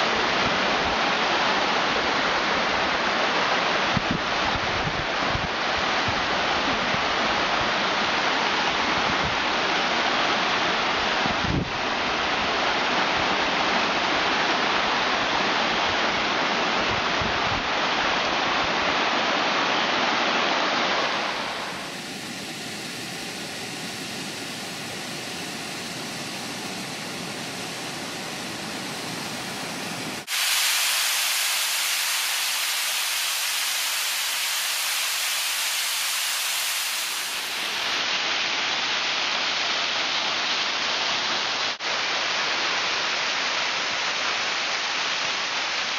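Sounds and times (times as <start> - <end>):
waterfall rushing water: 0.0 - 45.9.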